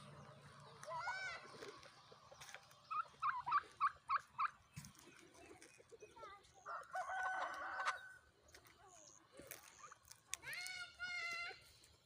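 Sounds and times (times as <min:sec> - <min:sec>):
turkeys calling: 0:00.0 - 0:11.5.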